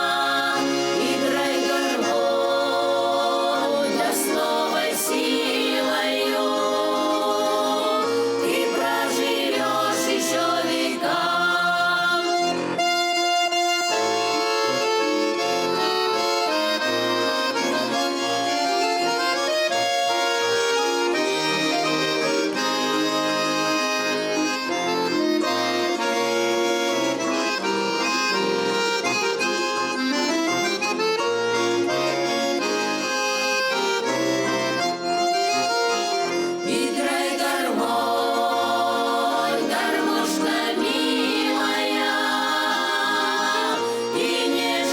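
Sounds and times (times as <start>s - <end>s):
accordion playing folk melody: 0.0s - 44.9s.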